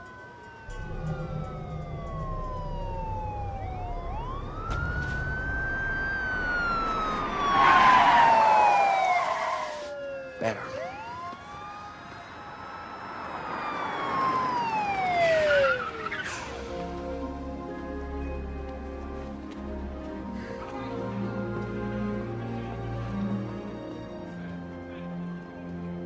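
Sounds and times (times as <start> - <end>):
police sirens wailing: 0.0 - 26.0
vehicle engines rumbling: 0.0 - 26.0.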